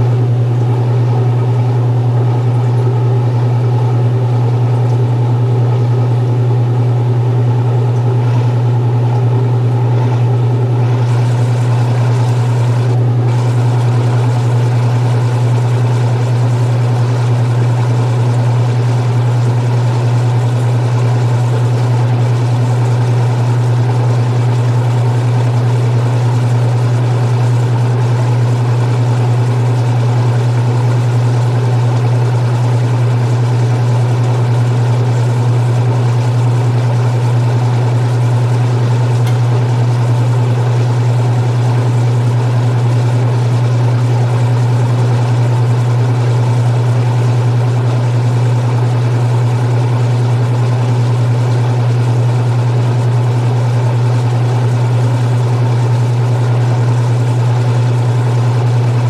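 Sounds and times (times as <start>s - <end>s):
washing machine motor hum: 0.0s - 59.0s.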